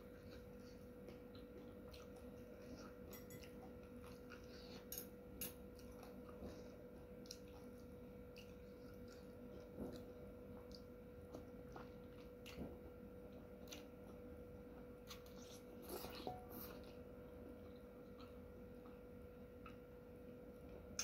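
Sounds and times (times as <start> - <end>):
person gnawing and chewing: 0.0 - 19.8
faint steady hum: 0.0 - 21.0.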